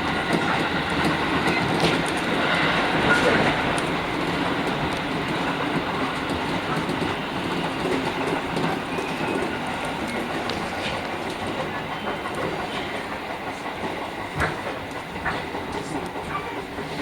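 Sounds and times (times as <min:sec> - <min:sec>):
train rumbling on rails: 0:00.0 - 0:17.0
wheels clattering over rail joints: 0:00.0 - 0:17.0.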